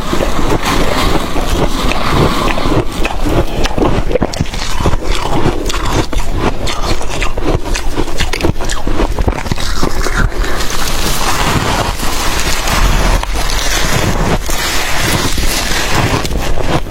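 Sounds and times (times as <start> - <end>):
chewing crunchy frost: 0.0 - 16.9.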